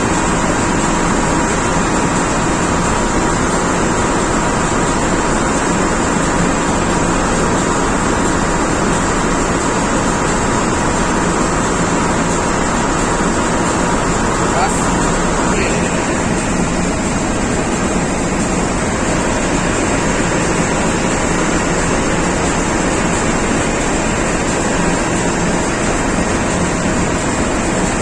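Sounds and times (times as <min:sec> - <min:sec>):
diesel engine room machinery: 0:00.0 - 0:28.0.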